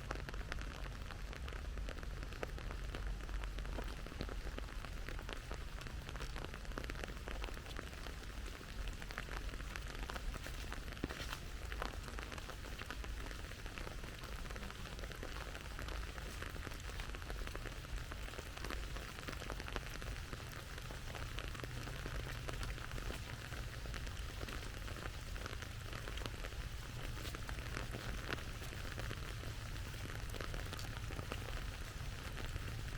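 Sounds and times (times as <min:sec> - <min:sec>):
raindrops ticking on surfaces: 0:00.0 - 0:32.9
rain hissing: 0:01.3 - 0:32.9.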